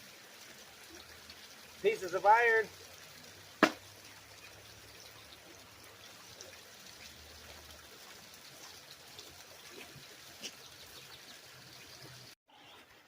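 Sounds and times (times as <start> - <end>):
trickle of running water: 0.0 - 13.0.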